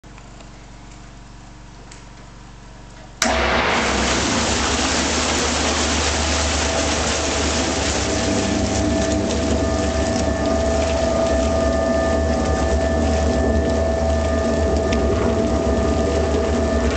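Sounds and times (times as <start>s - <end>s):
faint hum: 0.0s - 16.9s
machine humming: 0.0s - 16.9s
liquid pouring into metal tank: 3.2s - 16.9s.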